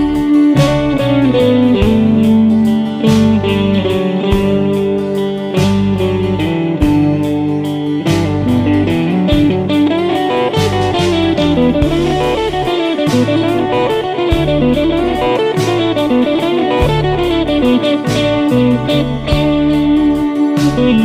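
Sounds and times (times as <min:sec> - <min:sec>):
guitar-led instrumental music: 0:00.0 - 0:21.0.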